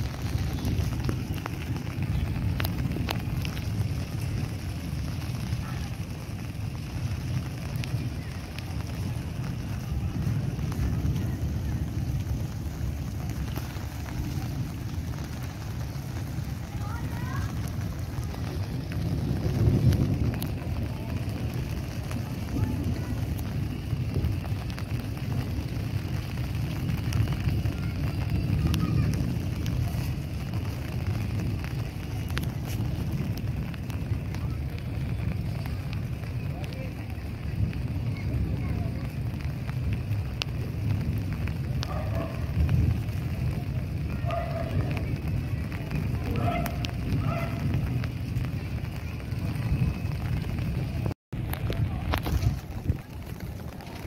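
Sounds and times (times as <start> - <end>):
heavy rain falling: 0.0 - 54.0
low rumble: 0.0 - 54.0
raindrops hitting close by: 0.0 - 54.0.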